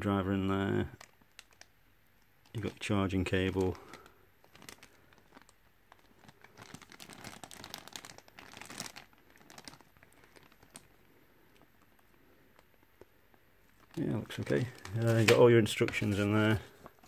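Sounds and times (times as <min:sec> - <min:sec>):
plastic bag crinkling: 0:00.8 - 0:17.0.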